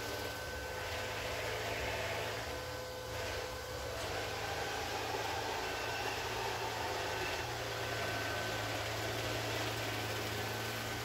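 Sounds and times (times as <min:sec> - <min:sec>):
robot vacuum whirring: 0:00.0 - 0:11.0.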